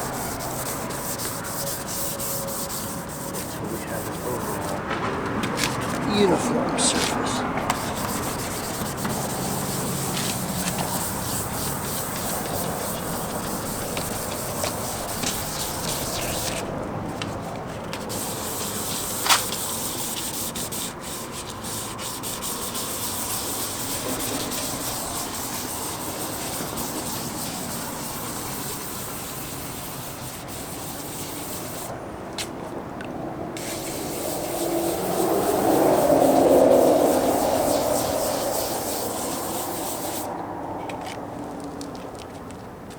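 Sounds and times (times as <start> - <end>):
sandpaper rubbing on plastic: 0.0 - 4.9, 5.5 - 32.0, 33.6 - 40.3.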